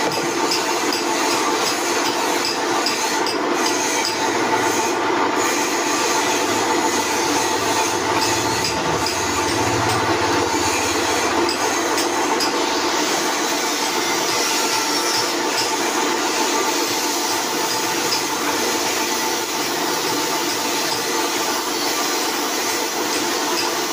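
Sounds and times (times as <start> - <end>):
drill press whirring: 0.0 - 23.8.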